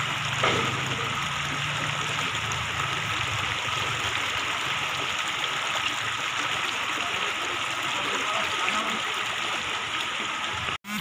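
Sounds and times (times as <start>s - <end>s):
floodwater rushing: 0.0s - 10.8s.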